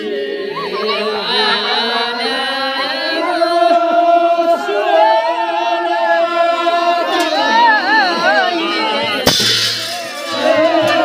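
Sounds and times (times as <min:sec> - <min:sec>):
voices singing slow chant: 0:00.0 - 0:11.0.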